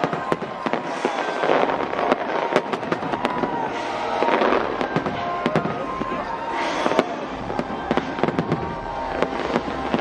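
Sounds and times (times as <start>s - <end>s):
fireworks bangs and crackles: 0.0s - 10.0s
rumbling fireworks bursts: 0.0s - 10.0s.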